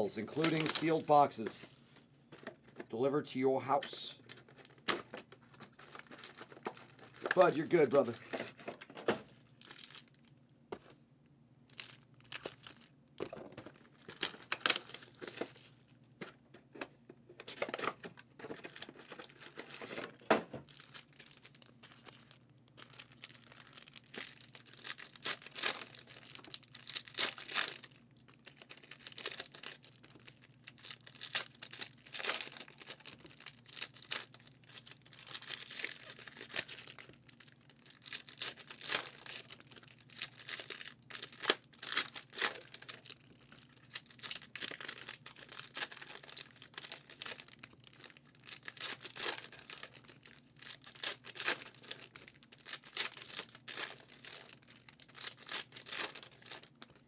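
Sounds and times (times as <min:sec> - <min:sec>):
foil packs tearing and crinkling: 0:00.2 - 0:01.6, 0:04.6 - 0:08.6, 0:11.7 - 0:12.9, 0:14.0 - 0:15.7, 0:17.5 - 0:57.0.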